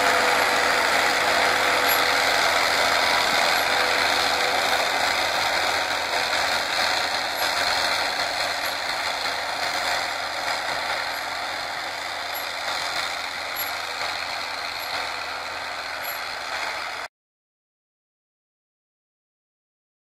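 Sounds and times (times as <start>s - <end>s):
harrow discs rattling: 0.0s - 17.1s
tractor engine running under load: 0.0s - 17.1s.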